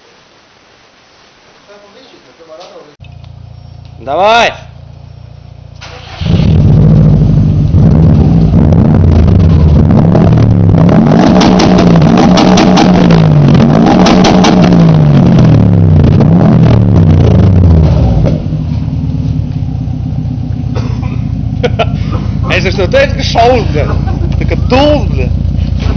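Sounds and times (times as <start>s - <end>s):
car engine revving: 4.7s - 25.9s.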